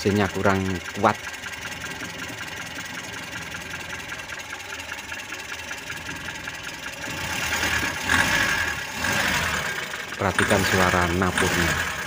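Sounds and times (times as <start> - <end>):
petrol engine ticking and revving: 0.0 - 12.0.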